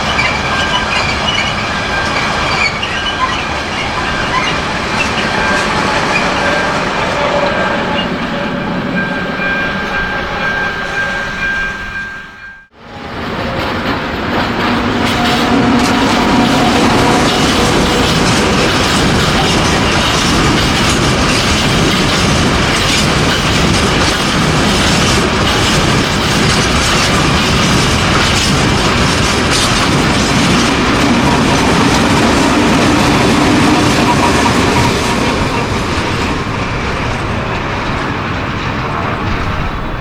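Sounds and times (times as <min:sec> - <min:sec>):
wheels clattering over rail joints: 0:00.0 - 0:10.0, 0:13.4 - 0:40.0
freight train rolling past: 0:00.0 - 0:40.0.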